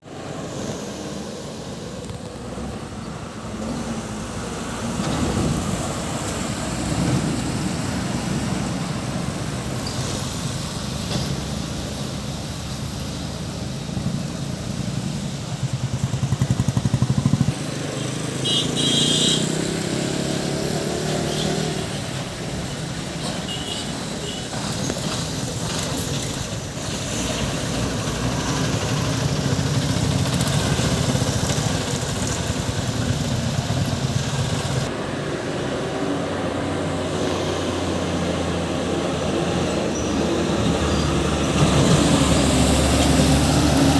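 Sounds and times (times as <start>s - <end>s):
diesel engines droning uphill: 0.0s - 43.9s.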